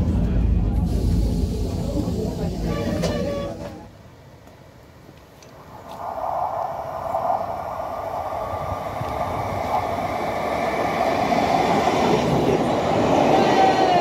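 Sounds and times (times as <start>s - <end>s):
electric train passing: 0.0s - 14.0s
wheels on rail: 0.0s - 14.0s.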